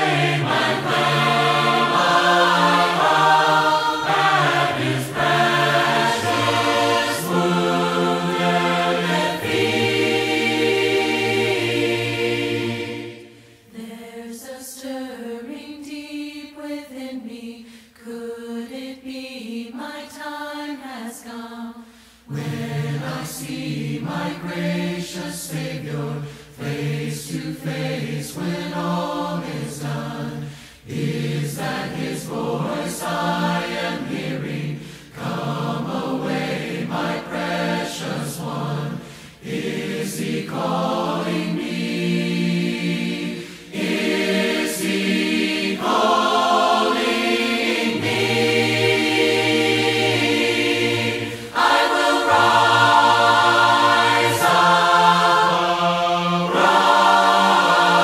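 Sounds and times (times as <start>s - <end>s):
group singing a hymn a cappella: 0.0s - 58.0s.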